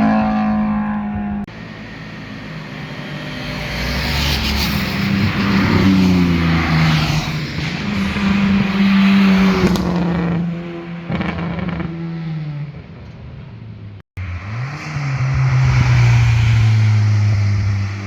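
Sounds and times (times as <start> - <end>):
car engine revving: 0.0 - 13.3, 14.2 - 18.0
car engine passing: 0.2 - 13.1, 14.2 - 18.0.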